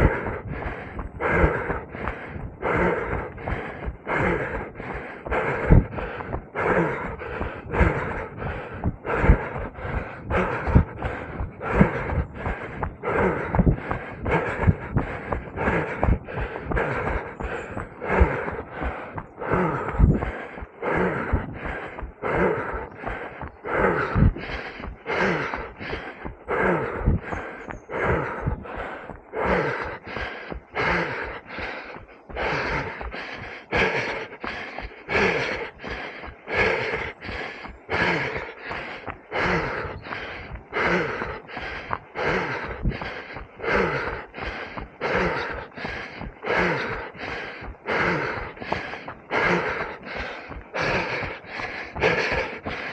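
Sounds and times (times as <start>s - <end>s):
heavy rhythmic panting: 0.0s - 52.9s.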